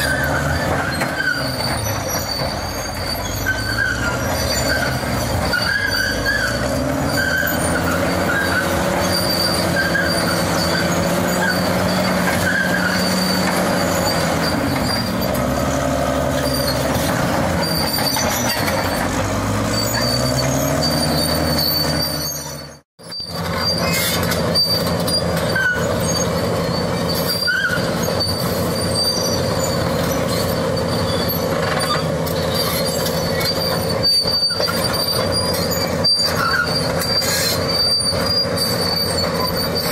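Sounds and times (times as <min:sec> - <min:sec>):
bulldozer diesel engine under load: 0:00.0 - 0:39.9
steel tracks squealing and clanking: 0:00.0 - 0:39.9.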